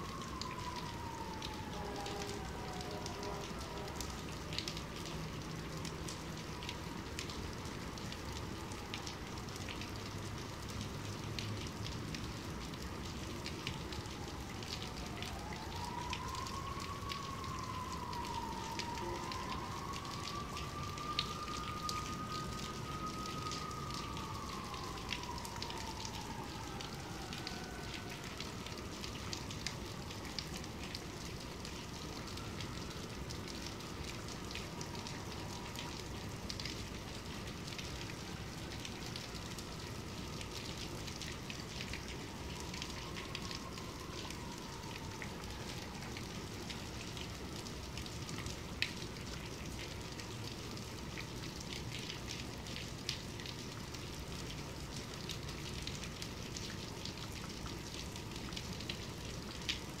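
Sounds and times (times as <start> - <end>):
heavy rainfall: 0.0 - 60.0.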